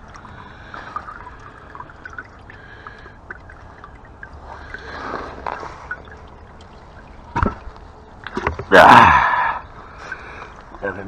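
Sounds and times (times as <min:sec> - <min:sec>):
oil dripping: 0:00.0 - 0:11.0.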